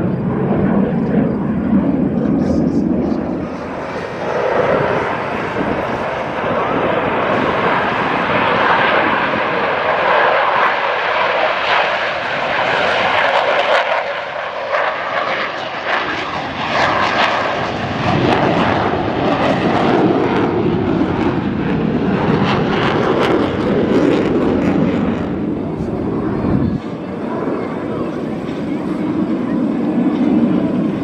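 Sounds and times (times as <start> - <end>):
jet taking off: 0.0 - 31.0.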